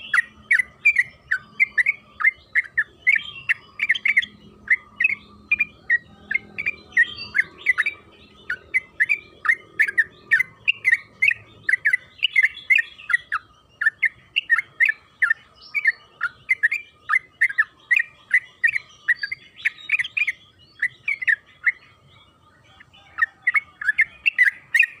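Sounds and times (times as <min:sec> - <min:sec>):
bulbul singing bubbly chirps: 0:00.0 - 0:25.0.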